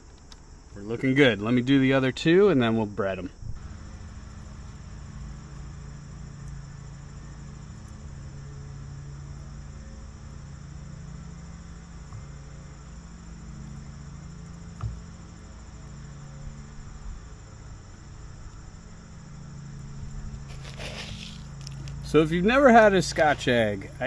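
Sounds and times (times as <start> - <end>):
crickets chirring: 0.0 - 24.0
low steady hum: 0.0 - 24.0.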